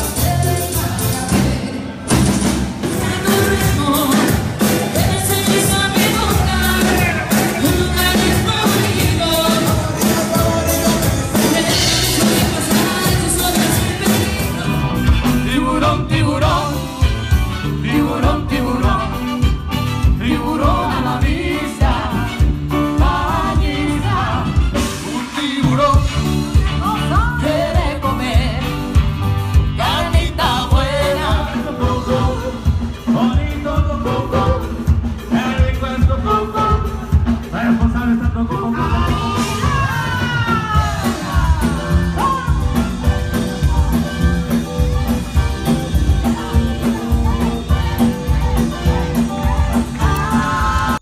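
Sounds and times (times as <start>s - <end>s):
upbeat band music with vocals: 0.0s - 51.0s.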